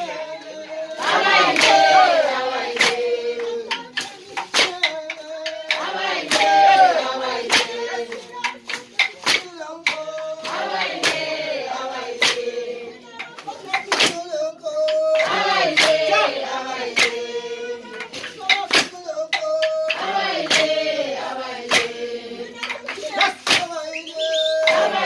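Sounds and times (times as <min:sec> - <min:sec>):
group singing: 0:00.0 - 0:25.0
hand clapping: 0:00.0 - 0:25.0.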